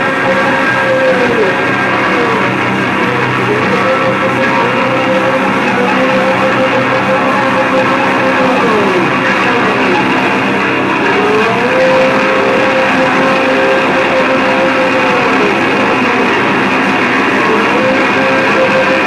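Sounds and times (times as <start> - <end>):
distorted electric guitar: 0.0 - 19.0
heavy rock band playing: 0.0 - 19.0.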